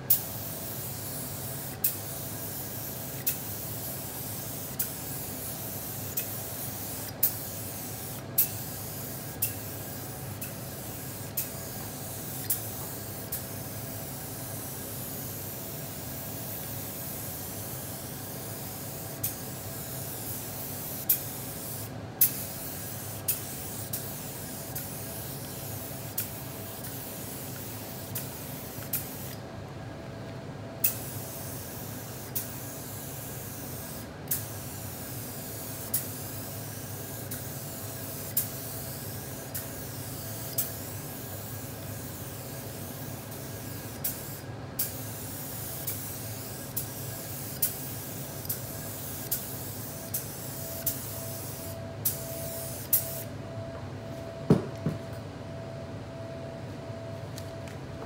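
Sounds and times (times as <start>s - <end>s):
spray gun hissing: 0.1s - 29.4s, 30.8s - 53.2s.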